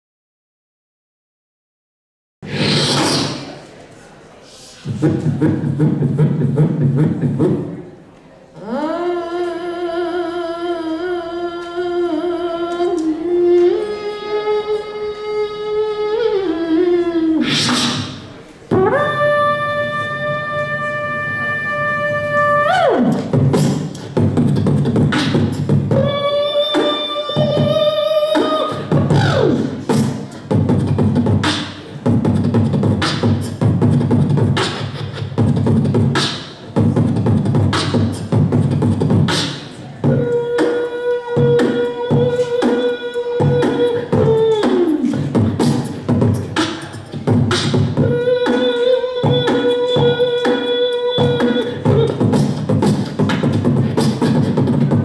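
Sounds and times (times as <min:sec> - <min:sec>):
person beatboxing: 0:02.4 - 0:03.8, 0:04.4 - 0:55.0.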